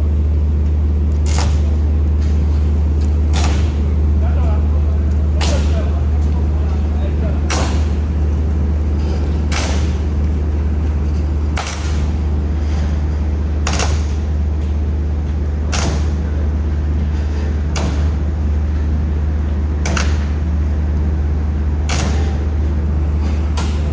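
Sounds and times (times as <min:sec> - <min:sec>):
welding machine electrical hum: 0:00.0 - 0:23.9.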